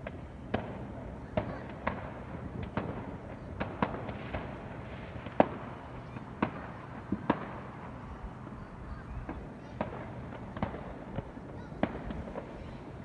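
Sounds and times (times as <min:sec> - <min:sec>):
fireworks bangs: 0:00.0 - 0:08.5, 0:09.2 - 0:13.0.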